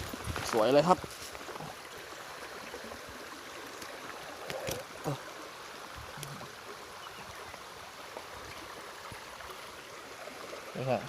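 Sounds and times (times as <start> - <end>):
shallow stream water flowing: 0.0 - 11.0.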